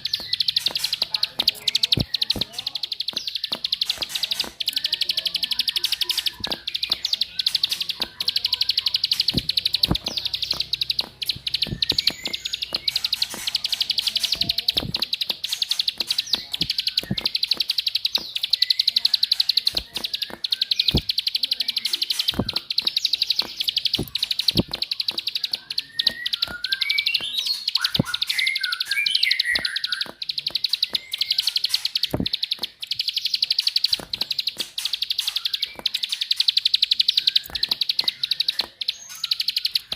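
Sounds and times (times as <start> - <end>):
bird high-pitched clicking call: 0.0 - 39.9
whistled bird chirps: 0.0 - 39.9.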